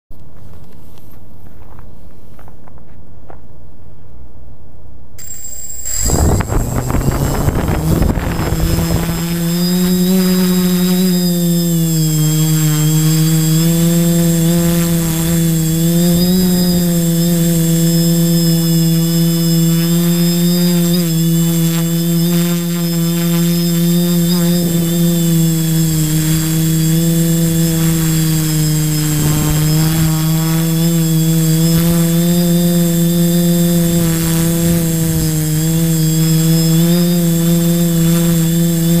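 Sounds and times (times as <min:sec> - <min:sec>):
multirotor drone motors whining: 0:05.2 - 0:39.0.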